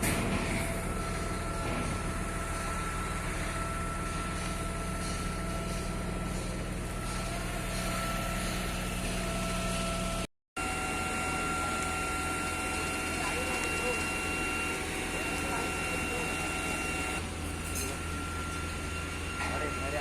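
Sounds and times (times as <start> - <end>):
diesel engine hum with whine: 0.0 - 20.0.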